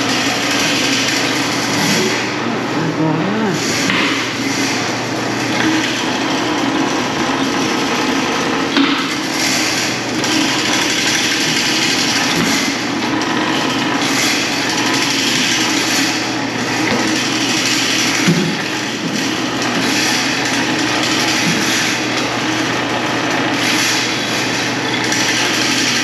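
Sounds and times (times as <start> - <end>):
steady low hum: 0.0 - 24.9
machinery working: 0.0 - 26.0.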